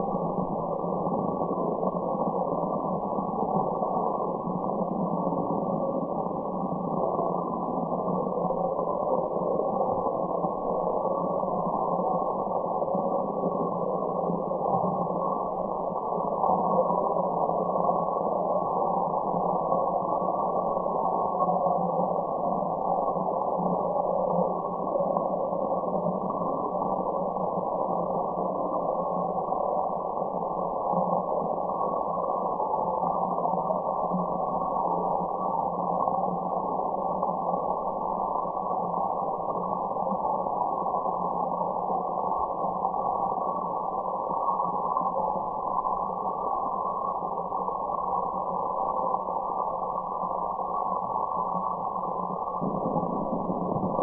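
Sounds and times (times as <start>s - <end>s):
muffled white noise rush: 0.0s - 54.0s.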